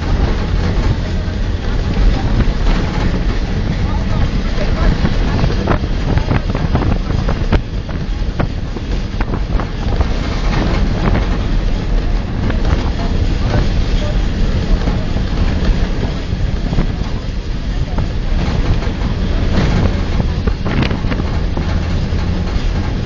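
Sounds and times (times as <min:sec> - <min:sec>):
knocks and rattles: 0:00.0 - 0:23.0
vehicle rumble: 0:00.0 - 0:23.0
wind buffeting microphone: 0:00.0 - 0:23.0.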